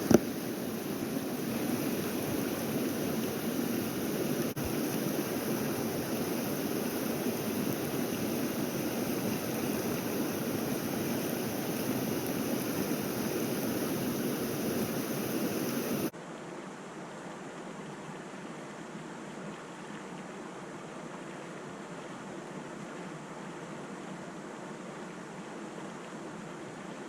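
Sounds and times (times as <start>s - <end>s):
creek water rushing: 0.0s - 27.0s.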